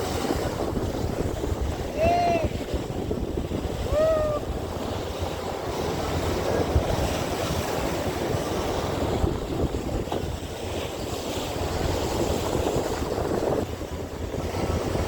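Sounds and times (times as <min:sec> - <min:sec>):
sea noise: 0:00.0 - 0:15.0
wind buffeting microphone: 0:00.0 - 0:15.0.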